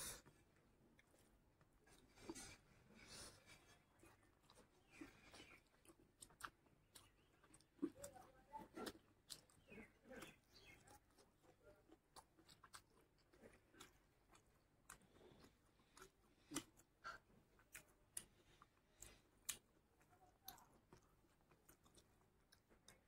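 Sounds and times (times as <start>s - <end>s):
wet chewing and lip smacks: 0.2s - 23.0s.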